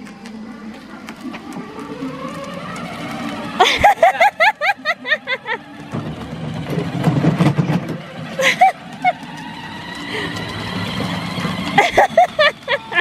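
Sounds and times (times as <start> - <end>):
toy car electric motor rumbling: 0.0 - 13.0.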